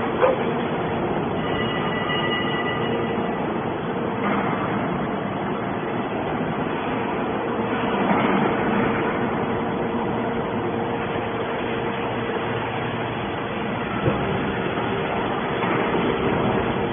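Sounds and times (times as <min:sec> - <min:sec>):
baler machine humming: 0:00.0 - 0:16.9.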